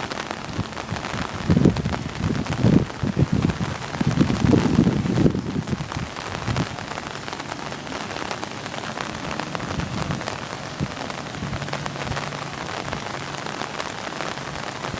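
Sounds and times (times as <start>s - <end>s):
rain pattering: 0.0s - 14.9s
wind rumble on microphone: 0.0s - 14.9s.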